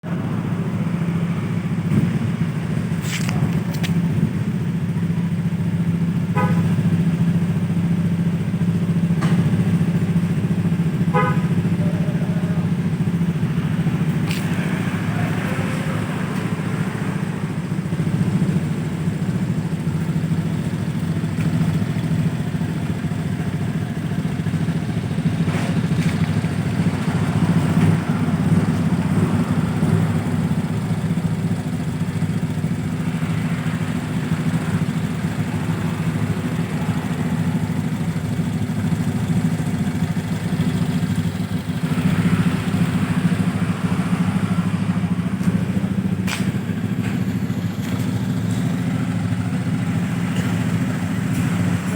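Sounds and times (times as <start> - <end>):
scooter engine idling: 0.0 - 51.9.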